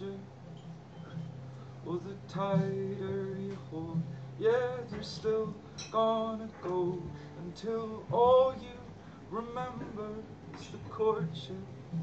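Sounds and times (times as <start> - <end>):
acoustic guitar: 0.0 - 12.0
men singing: 1.9 - 12.0.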